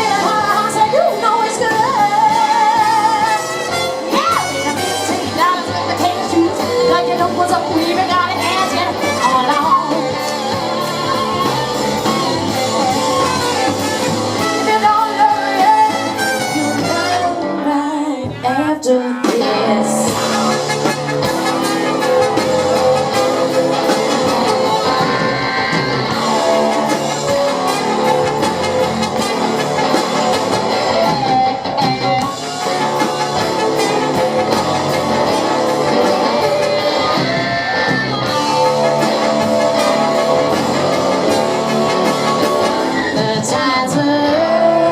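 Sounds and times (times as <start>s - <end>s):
live band with guitar: 0.0s - 44.9s.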